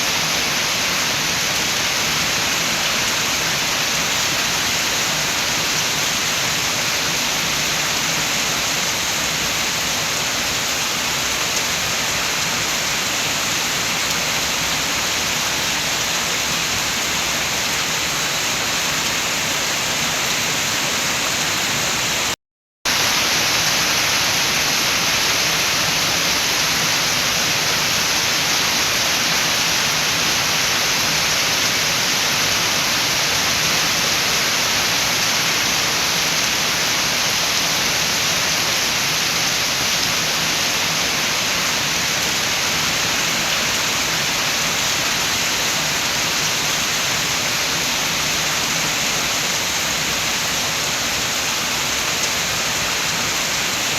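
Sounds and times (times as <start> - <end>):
rain hiss: 0.0 - 53.9
wind: 0.0 - 53.9.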